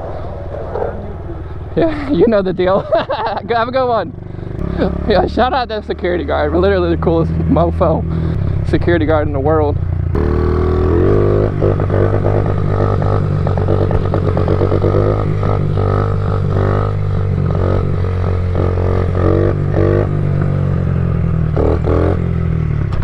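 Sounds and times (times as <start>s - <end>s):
pit bike engine revving: 0.0s - 23.0s.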